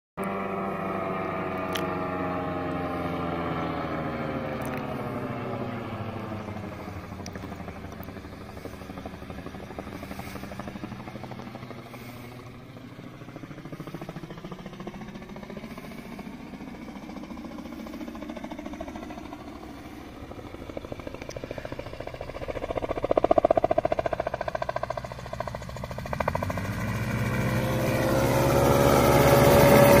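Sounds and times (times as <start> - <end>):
gyrocopter engine: 0.2 - 30.0.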